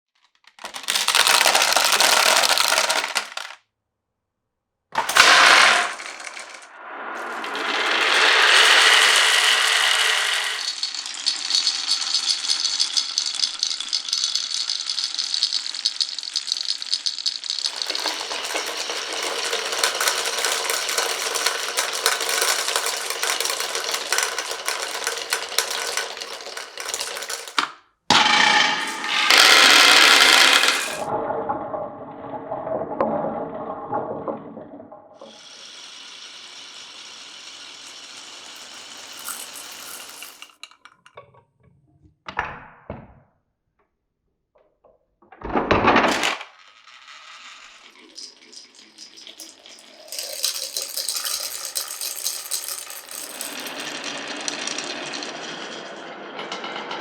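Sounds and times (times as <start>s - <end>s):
marbles rolling on wooden track: 0.2s - 3.6s, 5.0s - 31.2s, 33.0s - 41.2s, 45.4s - 57.0s
marbles clicking rattle: 0.3s - 3.6s, 5.0s - 31.1s, 35.2s - 41.0s, 46.1s - 56.6s.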